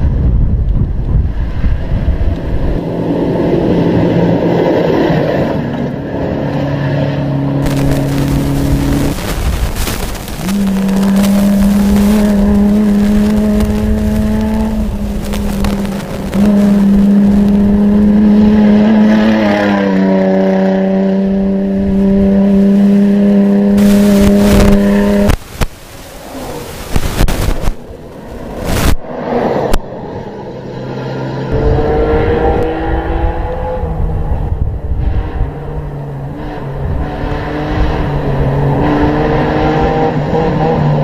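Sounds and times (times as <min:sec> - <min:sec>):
engine at high revs: 0:02.1 - 0:41.0.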